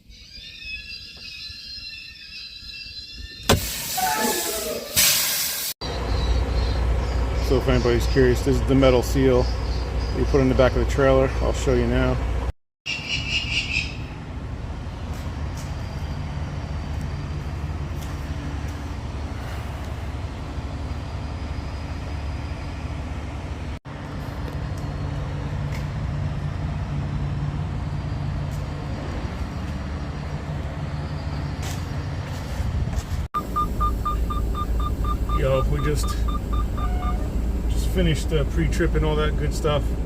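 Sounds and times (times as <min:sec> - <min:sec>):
diesel engine idling: 0:03.6 - 0:12.5, 0:14.0 - 0:32.6, 0:33.4 - 0:40.0.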